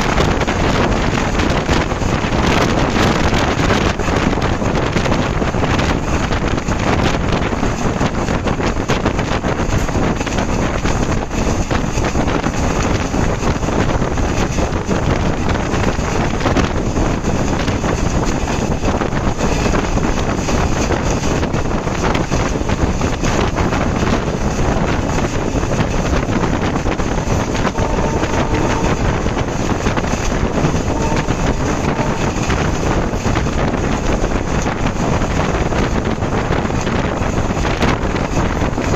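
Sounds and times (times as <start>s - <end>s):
moving passenger train rushing: 0.0s - 38.9s
wind on microphone: 0.0s - 38.9s.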